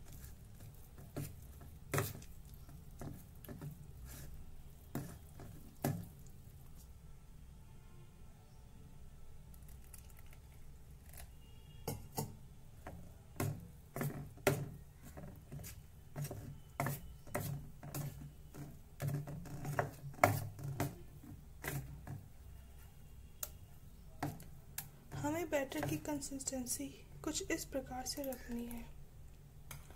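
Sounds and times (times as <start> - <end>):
spoon stirring thick batter: 0.0 - 7.0, 9.6 - 29.0.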